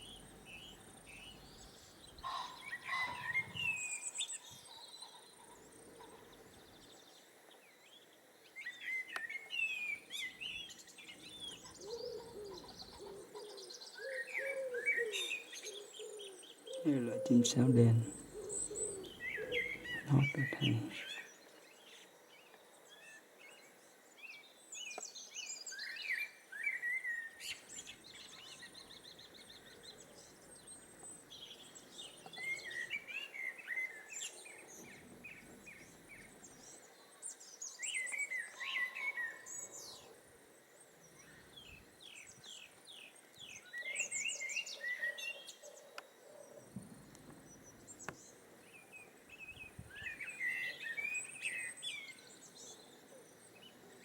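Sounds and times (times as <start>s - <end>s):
blackbird singing: 0.0s - 5.4s, 7.8s - 40.1s, 41.0s - 46.7s, 47.4s - 54.0s.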